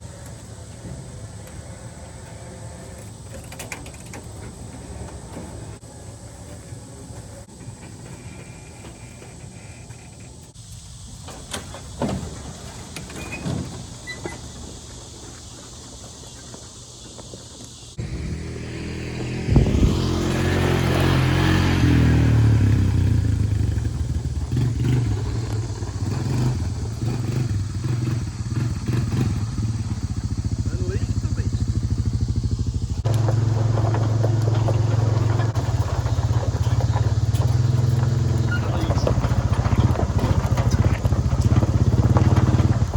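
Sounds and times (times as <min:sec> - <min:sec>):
vehicle engine and road noise: 0:00.0 - 0:42.9.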